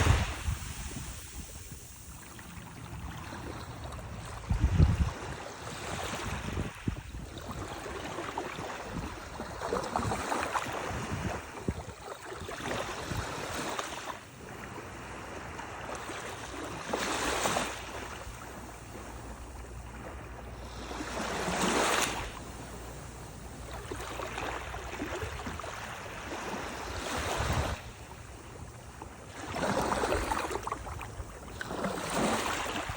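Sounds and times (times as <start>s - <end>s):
surf waves breaking on beach: 0.0s - 32.9s.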